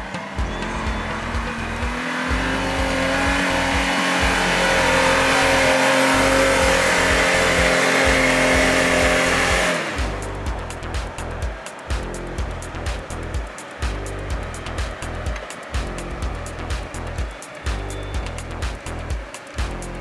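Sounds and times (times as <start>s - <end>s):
electronic music with steady beat: 0.0s - 20.0s
engine running at high revs: 0.0s - 20.0s.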